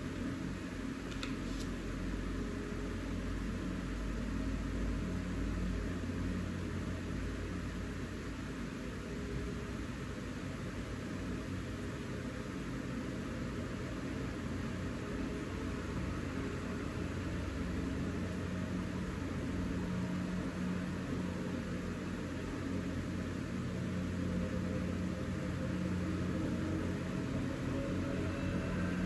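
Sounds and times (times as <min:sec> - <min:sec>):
machine hum and hiss: 0:00.0 - 0:29.0.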